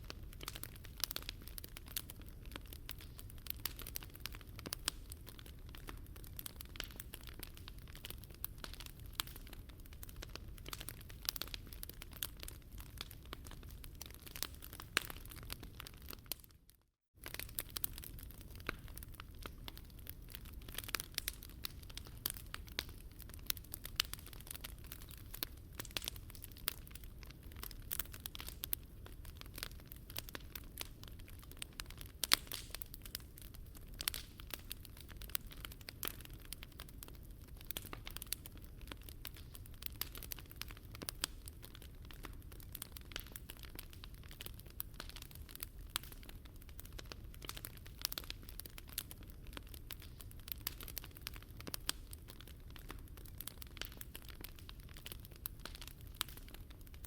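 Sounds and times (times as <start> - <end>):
low rumble of fire: 0.0 - 16.5, 17.2 - 57.0
wood fire crackling and popping: 0.0 - 57.0.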